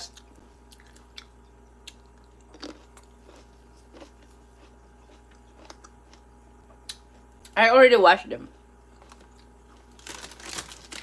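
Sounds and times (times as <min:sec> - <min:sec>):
person chewing grapes: 0:00.0 - 0:07.6, 0:08.8 - 0:11.0.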